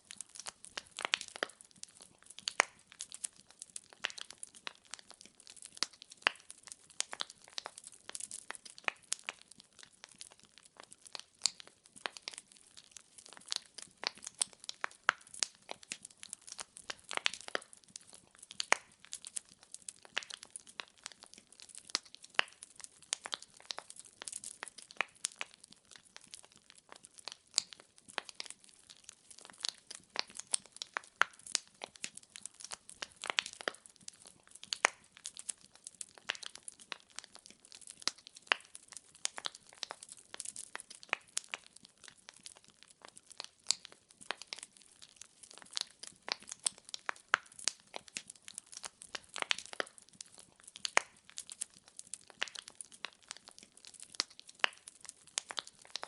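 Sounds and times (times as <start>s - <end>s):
firewood crackling in fireplace: 0.0s - 56.0s.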